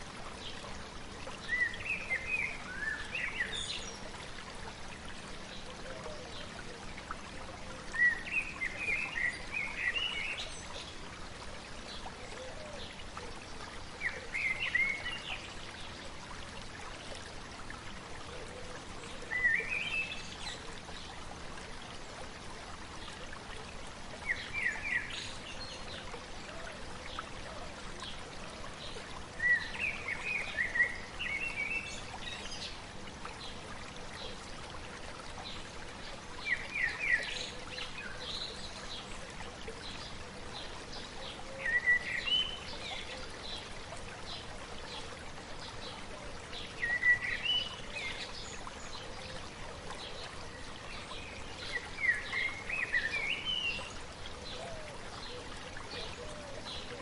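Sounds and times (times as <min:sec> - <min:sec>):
songbird singing: 0:00.0 - 0:04.4, 0:05.2 - 0:16.1, 0:18.3 - 0:21.2, 0:24.1 - 0:34.4, 0:35.3 - 0:57.0
river babbling: 0:00.0 - 0:57.0.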